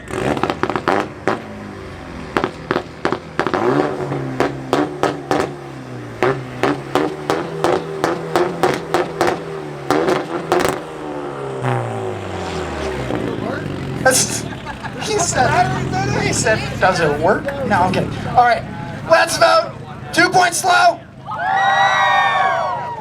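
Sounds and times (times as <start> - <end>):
car engine revving: 0.0 - 21.3
exhaust cracks: 0.0 - 21.5.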